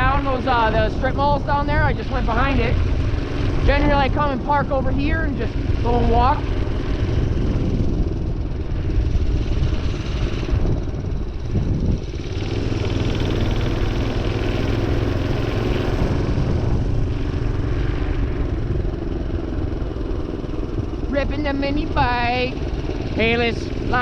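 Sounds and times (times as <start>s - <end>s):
minibike engine running: 0.0s - 24.0s.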